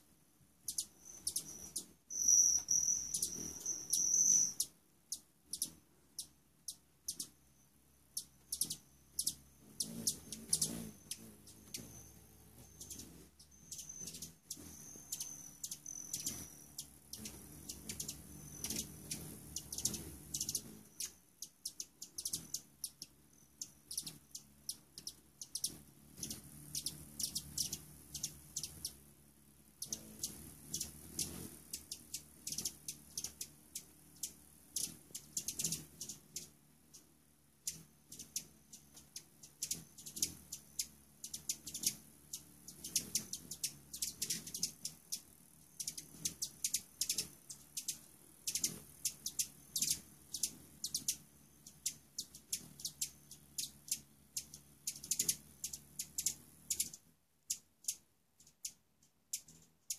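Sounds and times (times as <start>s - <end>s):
hummingbird chip calls: 0.6s - 59.9s.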